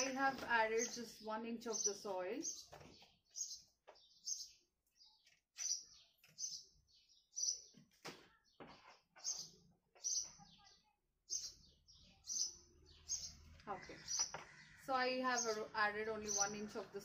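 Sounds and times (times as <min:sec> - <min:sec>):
small bird chirping: 0:00.0 - 0:16.7.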